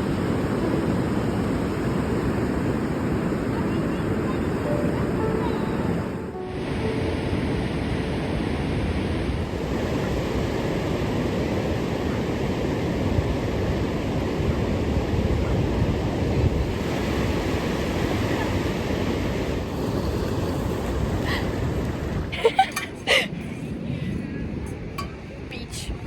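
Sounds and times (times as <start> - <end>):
ocean surf breaking: 0.0 - 26.0
wind rumbling on microphone: 0.0 - 26.0.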